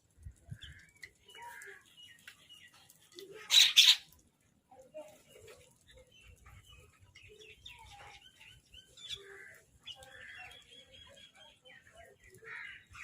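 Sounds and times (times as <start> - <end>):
birds chirping and calling: 0.2 - 13.0.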